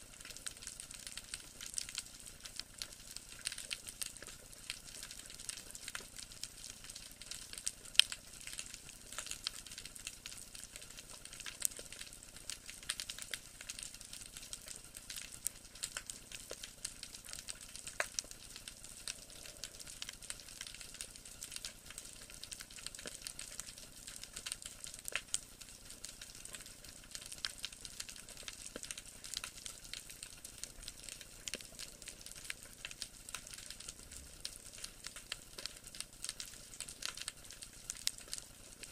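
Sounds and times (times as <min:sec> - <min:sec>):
snapping shrimp crackle underwater: 0:00.0 - 0:38.9.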